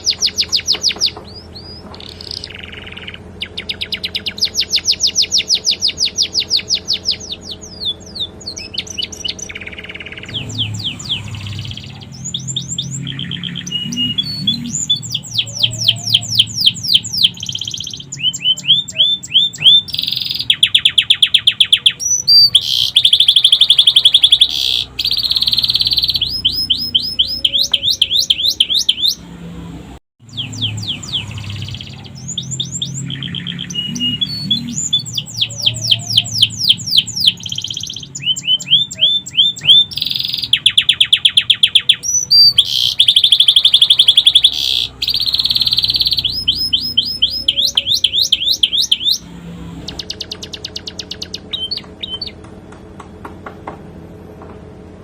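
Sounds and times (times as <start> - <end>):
canary singing trills: 0.0 - 52.5.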